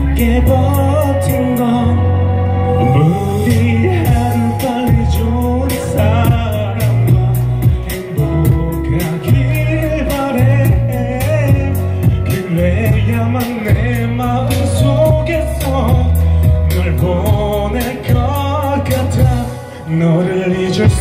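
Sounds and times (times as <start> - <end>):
backing music with heavy bass: 0.0 - 21.0
man singing into microphone: 0.0 - 21.0.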